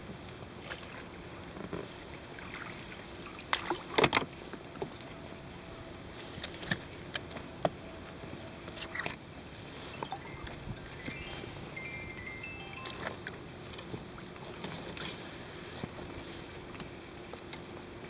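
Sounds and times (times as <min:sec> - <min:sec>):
water around boat: 0:00.0 - 0:11.9, 0:12.5 - 0:18.0
wind: 0:00.0 - 0:18.0.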